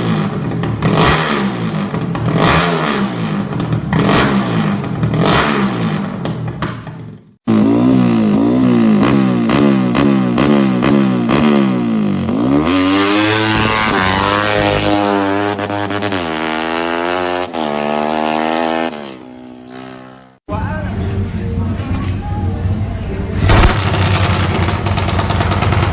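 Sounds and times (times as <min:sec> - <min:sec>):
motorcycle engine revving: 0:00.0 - 0:20.4, 0:23.4 - 0:25.9.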